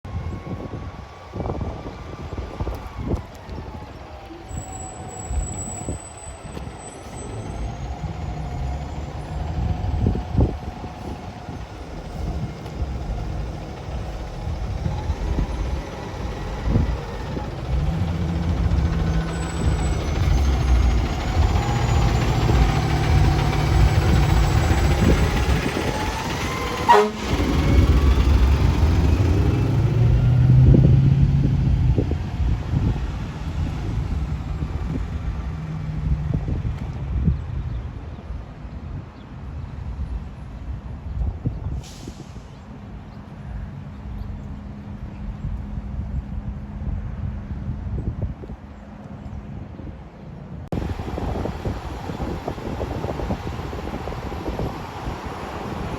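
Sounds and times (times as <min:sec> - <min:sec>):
fire engine rumble: 0:00.1 - 0:55.9.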